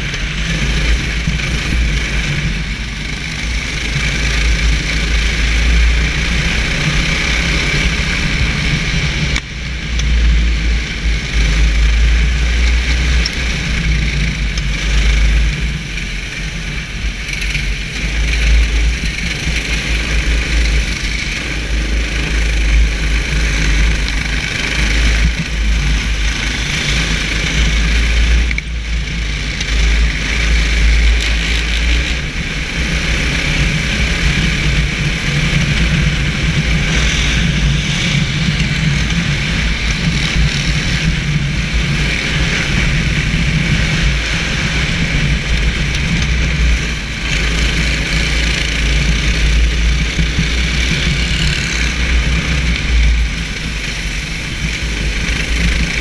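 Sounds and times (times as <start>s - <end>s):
racing kart engine: 0.0s - 56.0s.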